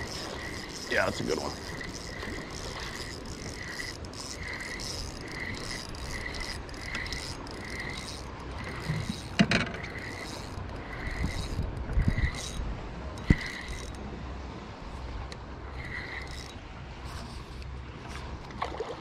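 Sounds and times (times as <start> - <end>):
fishing reel whirring: 0.0 - 12.6, 13.2 - 14.0, 15.6 - 17.7.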